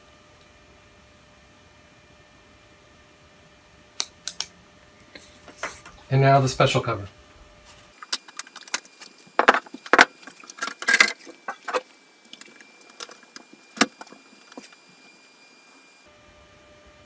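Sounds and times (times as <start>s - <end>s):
computer fans humming: 0.0s - 17.0s.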